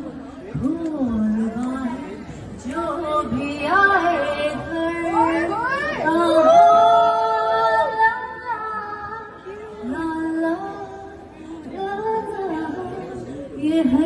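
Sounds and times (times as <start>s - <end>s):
woman singing slow melody: 2.6s - 14.0s.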